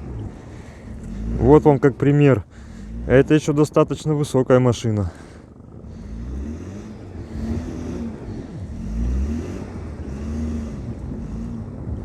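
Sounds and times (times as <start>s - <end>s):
car engine revving: 0.0s - 12.0s
low rumble: 0.0s - 12.0s.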